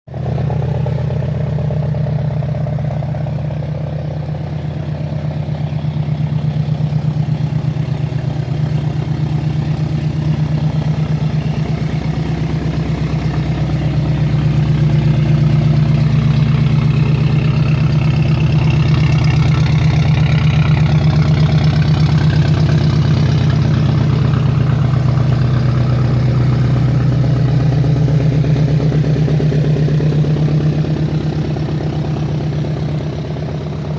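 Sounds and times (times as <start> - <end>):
car exhaust idling: 0.1 - 33.9.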